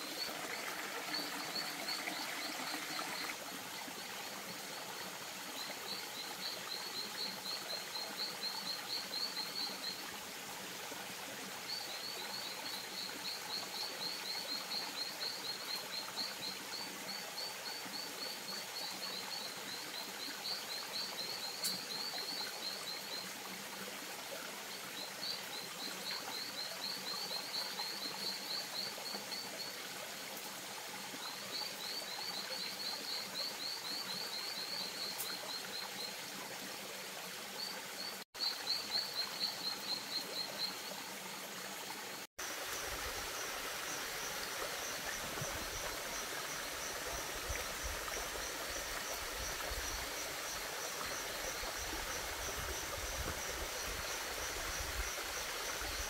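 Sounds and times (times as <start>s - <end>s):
shallow stream trickling: 0.0s - 56.0s.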